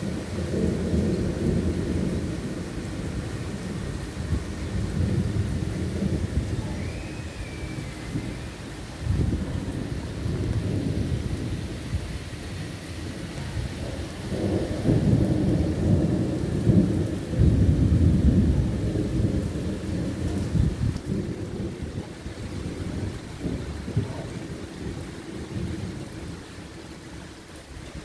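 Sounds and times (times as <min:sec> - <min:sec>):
steady rain: 0:00.0 - 0:28.0
thunder rumbling: 0:00.0 - 0:28.0.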